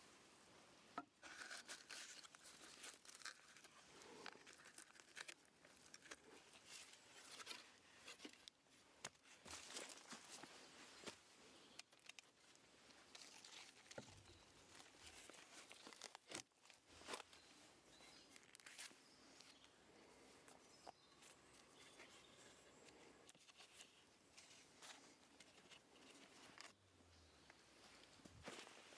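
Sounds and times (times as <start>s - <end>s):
faint rustles: 1.2s - 28.9s.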